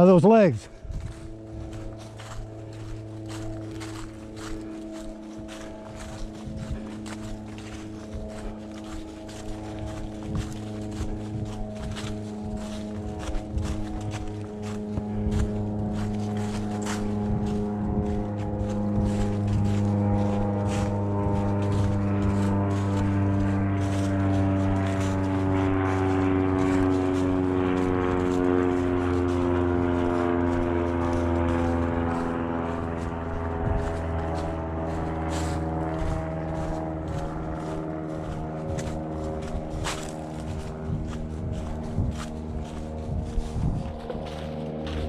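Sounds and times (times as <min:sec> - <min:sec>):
engine drone: 0:00.0 - 0:45.0
low hum: 0:00.0 - 0:45.0.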